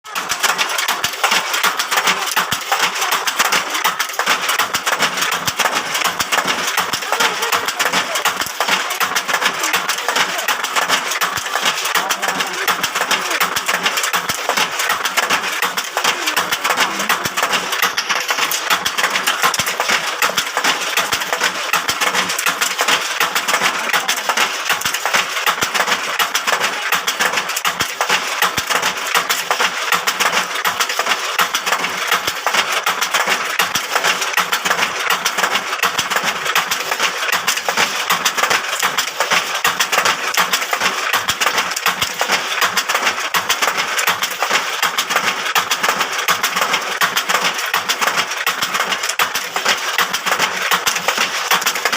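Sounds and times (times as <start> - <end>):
skewer machine rattling: 0.0 - 51.9.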